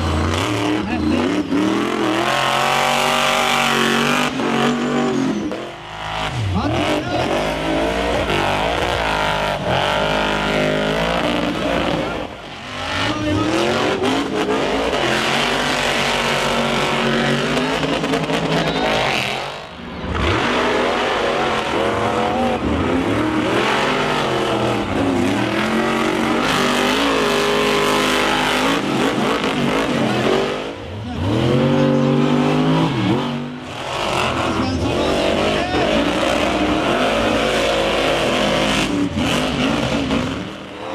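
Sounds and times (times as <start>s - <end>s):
monster truck engine revving: 0.0s - 40.9s.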